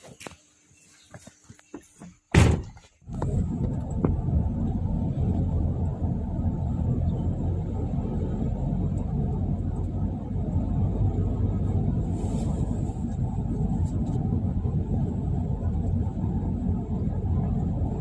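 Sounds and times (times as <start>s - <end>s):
car road and engine rumble: 1.8s - 18.0s.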